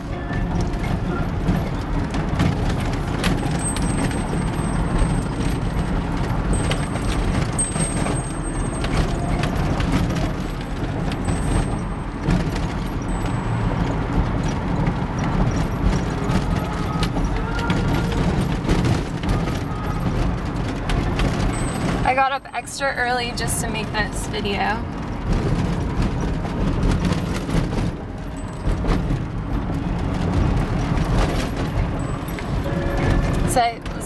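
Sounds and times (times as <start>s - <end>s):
car road and engine noise: 0.0s - 34.0s.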